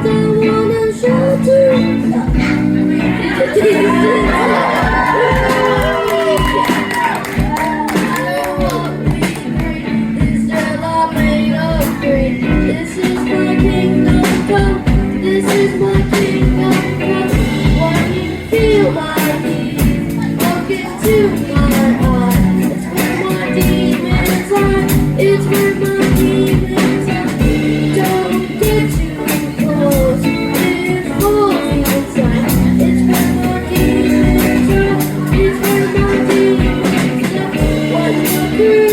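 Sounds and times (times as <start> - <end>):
drums: 0.0 - 38.9
guitar: 0.0 - 38.9
person singing: 0.0 - 38.9.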